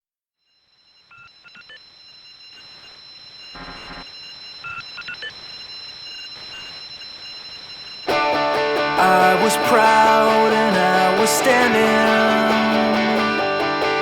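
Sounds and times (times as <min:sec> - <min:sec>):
electronic ringing tones: 0:01.0 - 0:12.5.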